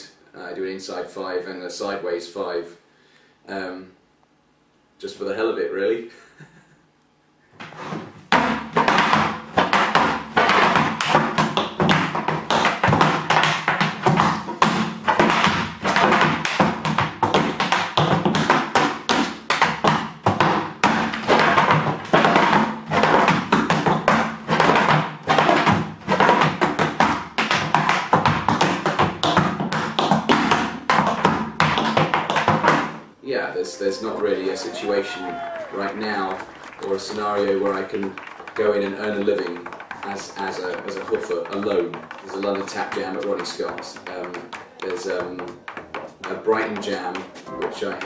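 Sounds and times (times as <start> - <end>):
tap shoes on wooden board: 7.6 - 33.0, 33.8 - 48.0.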